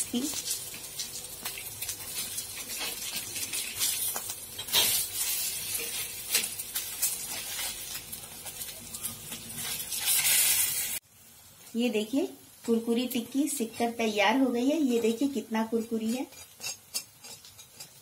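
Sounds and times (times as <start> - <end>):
oil sizzling with pops: 0.0 - 18.0.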